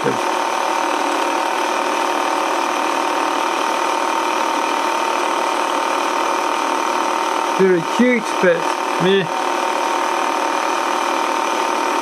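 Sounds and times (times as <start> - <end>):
toy motor and gears whirring: 0.0 - 12.0.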